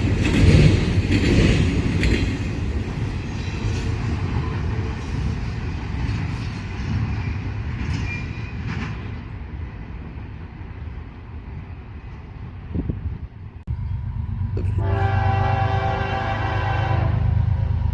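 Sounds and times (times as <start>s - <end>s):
train clanks: 0.0s - 15.4s
freight train rumbling: 0.0s - 17.9s.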